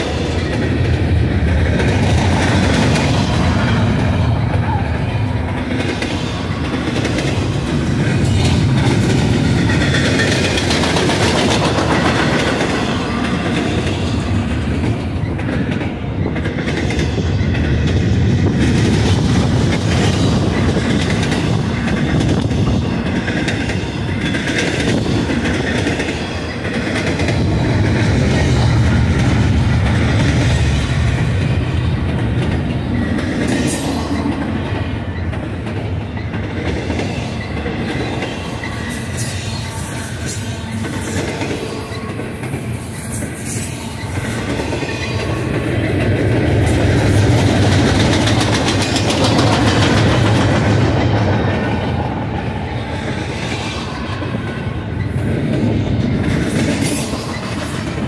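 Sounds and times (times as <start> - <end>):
clickety-clack of rail joints: 0.0 - 58.0
train wheels rumbling on rail: 0.0 - 58.0.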